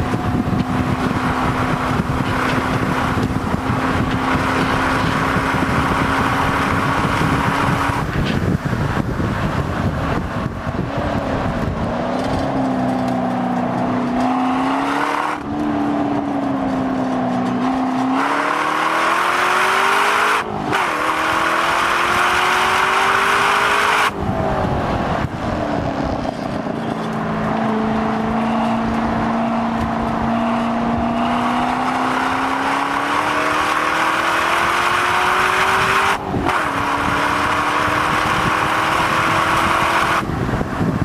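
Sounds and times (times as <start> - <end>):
car engine accelerating hard: 0.0 - 41.0
wind and road noise: 0.0 - 41.0.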